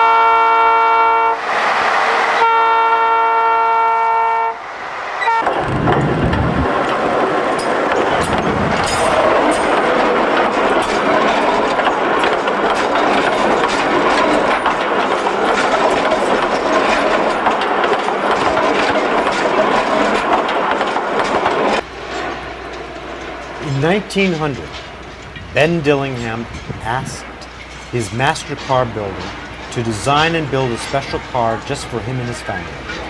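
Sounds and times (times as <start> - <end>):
train wheels rumbling on track: 0.0 - 33.0
wheels clacking over rail joints: 5.3 - 33.0.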